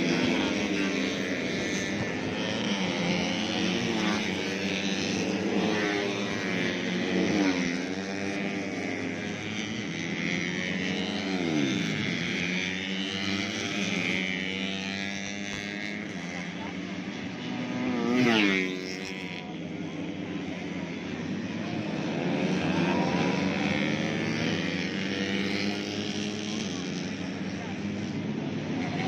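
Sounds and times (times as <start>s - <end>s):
motorcycles passing by: 0.0s - 29.0s
racing motorcycles revving: 0.0s - 29.0s.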